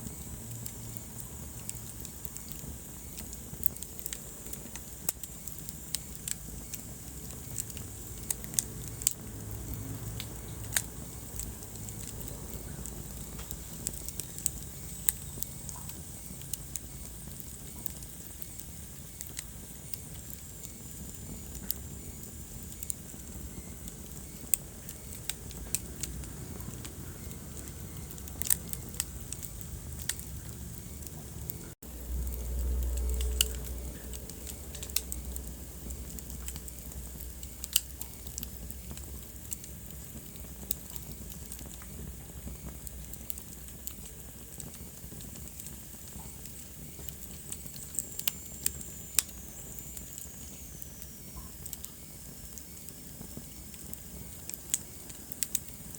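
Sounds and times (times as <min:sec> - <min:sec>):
deep rumble of flames: 0:00.0 - 0:55.9
wood fire crackling: 0:00.0 - 0:55.9.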